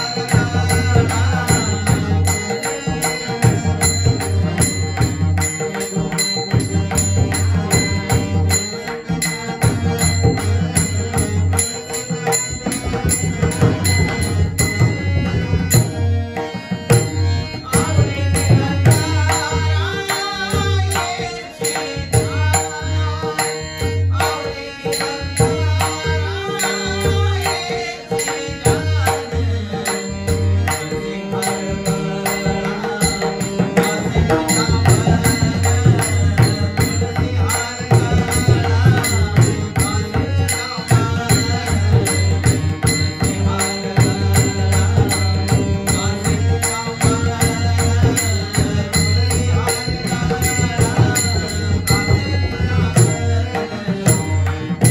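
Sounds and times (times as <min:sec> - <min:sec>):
devotional singing: 0:00.0 - 0:54.9
high ticking rhythm: 0:00.0 - 0:54.9.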